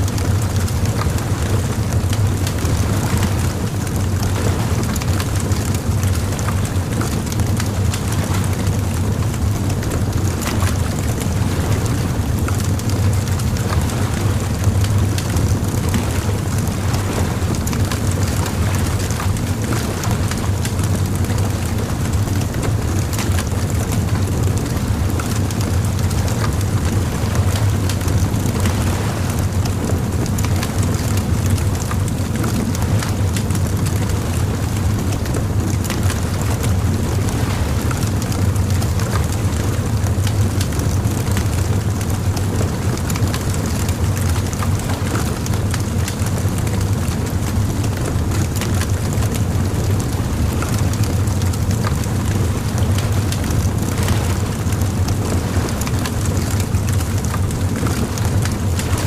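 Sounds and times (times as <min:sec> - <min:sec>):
bonfire crackling and popping: 0:00.0 - 0:59.0.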